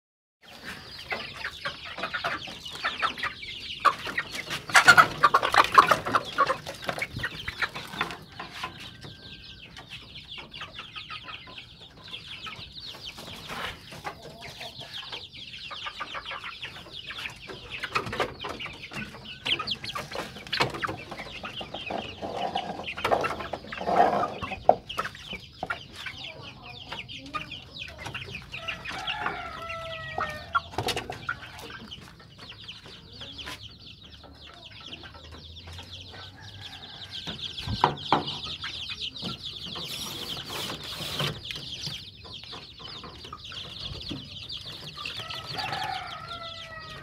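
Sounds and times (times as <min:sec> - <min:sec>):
chickens clucking: 0:00.4 - 0:47.0.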